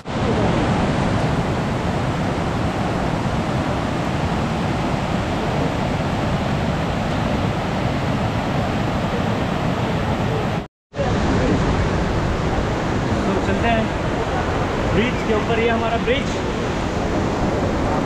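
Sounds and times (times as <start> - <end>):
river rushing through rapids: 0.0 - 18.0.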